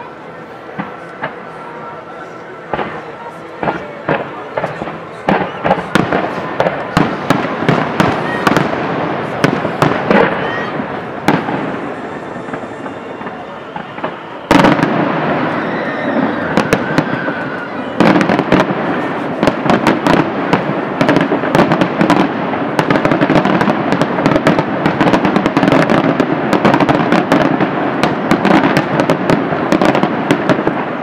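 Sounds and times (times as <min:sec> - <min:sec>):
continuous rumble of fireworks: 0:00.0 - 0:31.0
fireworks popping and crackling: 0:00.0 - 0:31.0.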